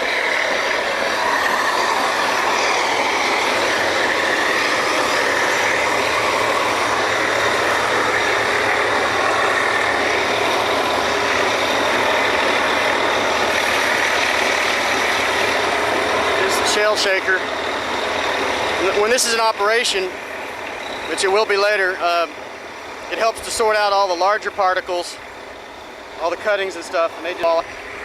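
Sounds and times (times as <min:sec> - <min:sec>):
drilling rig machinery running: 0:00.0 - 0:28.0.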